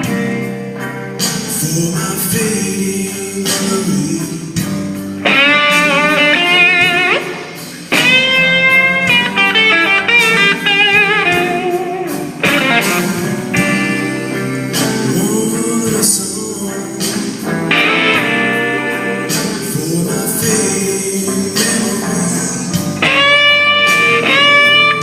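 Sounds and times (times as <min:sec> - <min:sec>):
backing band: 0:00.0 - 0:25.0
electric blues guitar lead: 0:00.0 - 0:25.0.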